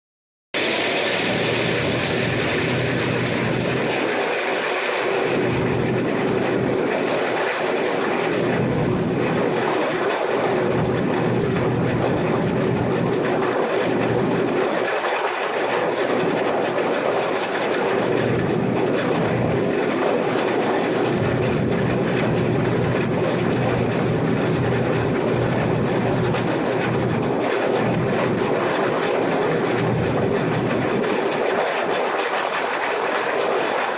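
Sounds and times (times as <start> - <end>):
combine harvester running: 0.6 - 33.9.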